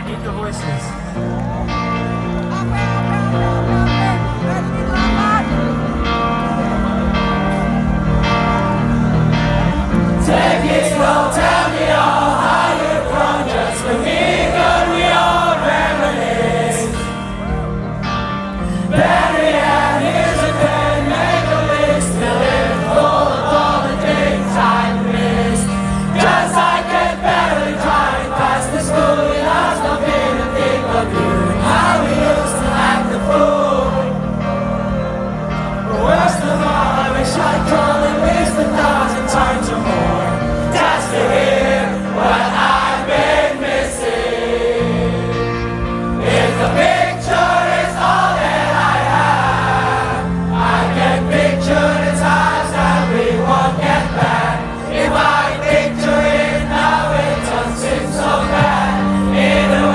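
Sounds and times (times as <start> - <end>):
crowd singing along: 0.0 - 59.9
live band guitar and bass: 0.0 - 59.9.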